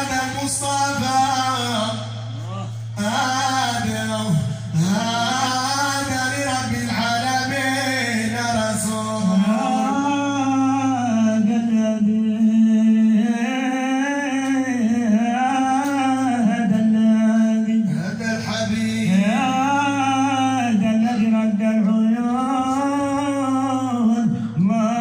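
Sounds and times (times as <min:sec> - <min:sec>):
men singing unaccompanied: 0:03.0 - 0:25.0.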